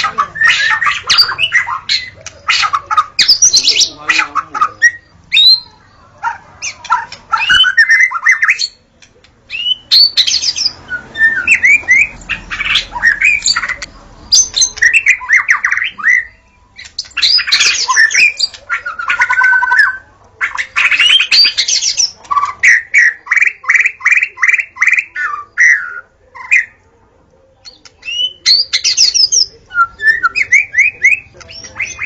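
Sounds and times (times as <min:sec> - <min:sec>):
songbird whistling and chattering: 0:00.0 - 0:06.0, 0:06.6 - 0:26.8, 0:27.6 - 0:32.0.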